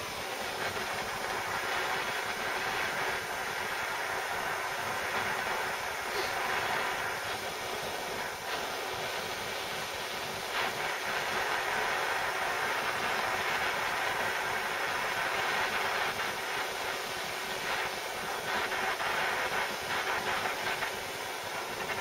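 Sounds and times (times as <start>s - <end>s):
blowtorch hissing: 0.0s - 22.0s.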